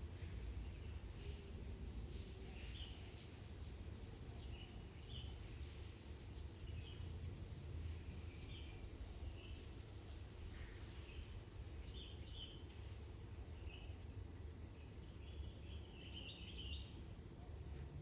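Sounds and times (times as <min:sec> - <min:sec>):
small birds chirping: 0:00.0 - 0:17.1.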